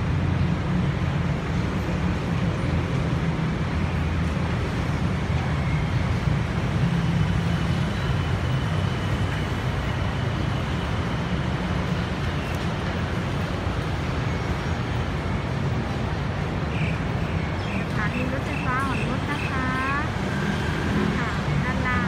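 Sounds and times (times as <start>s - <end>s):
city road traffic rumble: 0.0s - 22.0s.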